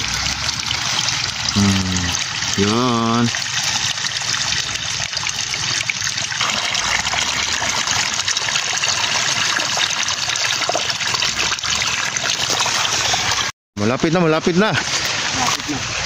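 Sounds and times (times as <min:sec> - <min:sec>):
water gushing from hose: 0:00.0 - 0:16.0.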